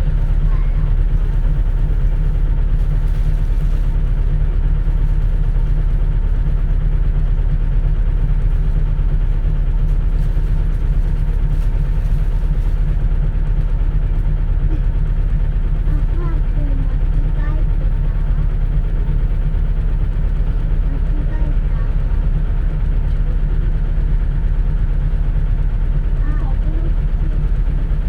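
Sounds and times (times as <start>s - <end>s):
bus engine rumble inside cabin: 0.0s - 28.0s.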